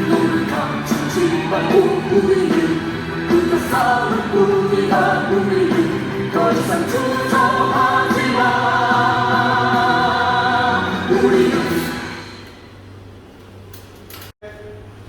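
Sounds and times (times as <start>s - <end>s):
backing music: 0.0s - 12.5s
group singing a held note: 0.0s - 12.5s.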